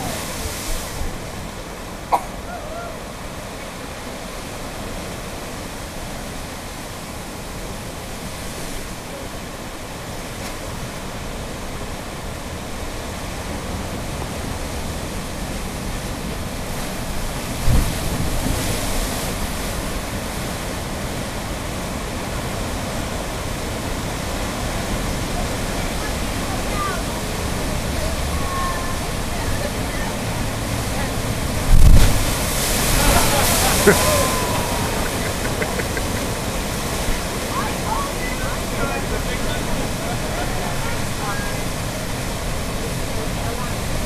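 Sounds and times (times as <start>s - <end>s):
ocean surf rushing into rocks: 0.0s - 44.0s.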